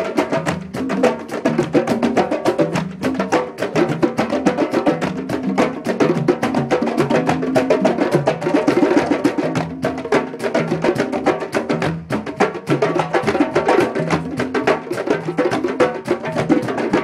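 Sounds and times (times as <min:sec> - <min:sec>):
hand drums playing fast rhythm: 0:00.0 - 0:17.0.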